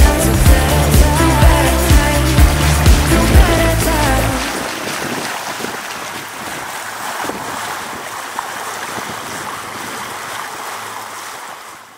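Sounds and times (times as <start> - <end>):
water washing and small waves: 0.0 - 11.9
wind: 0.0 - 11.9.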